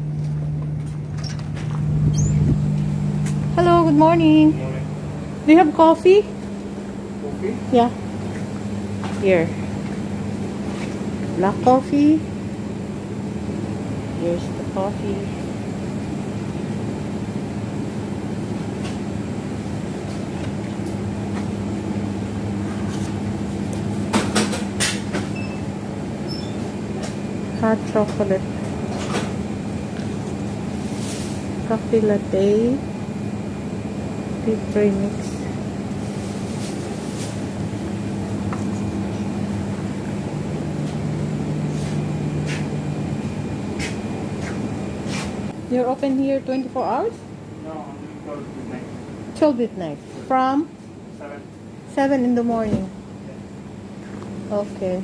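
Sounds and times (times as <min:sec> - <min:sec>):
electrical hum of shop appliances: 0:00.0 - 0:55.0.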